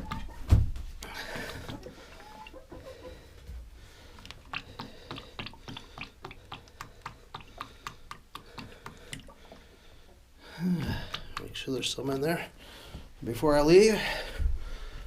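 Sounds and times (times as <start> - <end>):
chickens pecking: 0.0 - 12.3.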